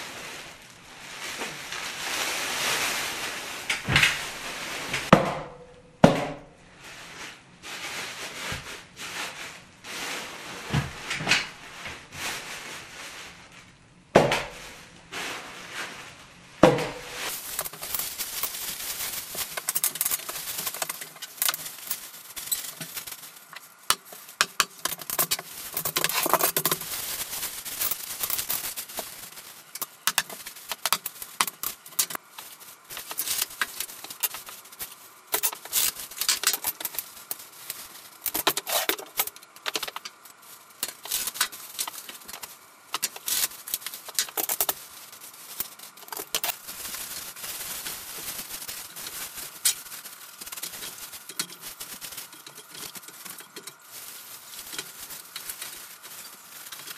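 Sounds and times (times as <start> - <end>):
plastic film crinkling: 0.0 - 5.1, 6.8 - 13.8, 14.4 - 56.9.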